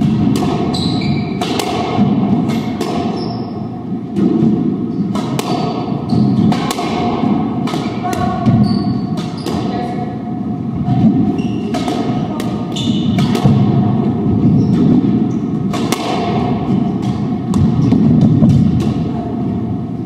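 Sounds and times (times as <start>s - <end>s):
squash ball hitting rackets and walls: 0.0s - 20.0s.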